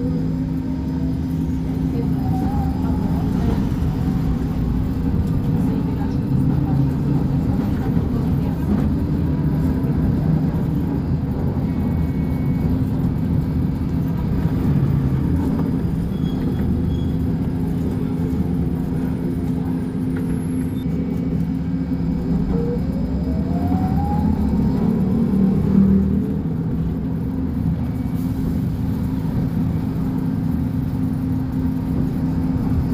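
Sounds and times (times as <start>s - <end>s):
diesel bus engine running: 0.0s - 32.9s.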